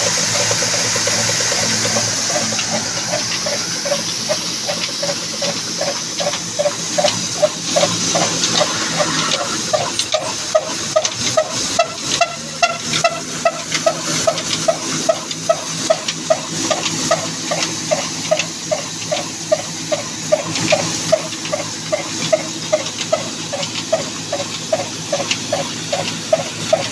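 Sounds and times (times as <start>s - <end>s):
diesel engine running: 0.0s - 26.9s
machine hiss and rattle: 0.0s - 26.9s.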